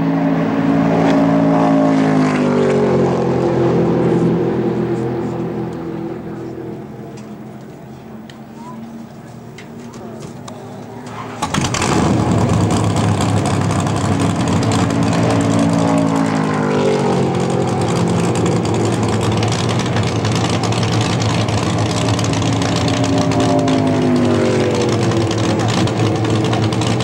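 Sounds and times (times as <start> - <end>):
car engine running near idle: 4.0 - 27.0.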